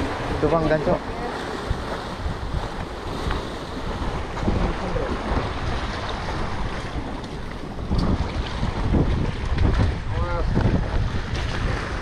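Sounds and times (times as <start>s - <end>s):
sea waves against breakwater: 0.0s - 12.0s
wind buffeting microphone: 0.0s - 12.0s.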